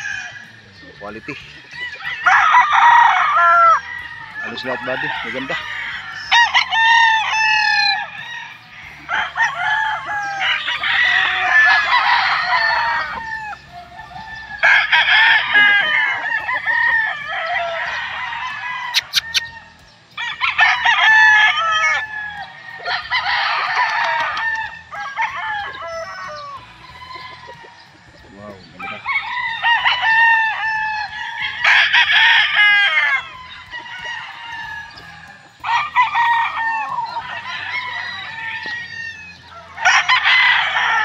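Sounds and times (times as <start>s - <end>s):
roosters crowing: 0.0s - 41.0s.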